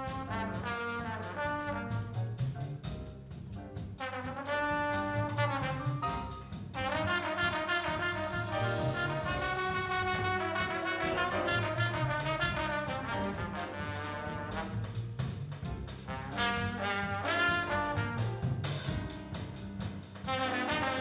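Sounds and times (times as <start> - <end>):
double bass: 0.0 - 21.0
piano: 0.0 - 21.0
trombone: 0.0 - 21.0.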